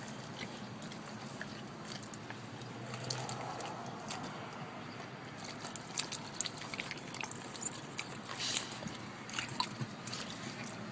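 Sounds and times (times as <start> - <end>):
dogs licking and sniffing: 0.0 - 10.9.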